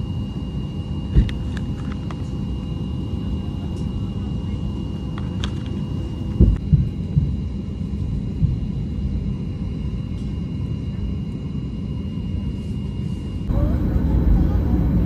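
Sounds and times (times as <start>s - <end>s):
thin steady whine: 0.0s - 15.0s
airliner cabin rumble: 0.1s - 15.0s.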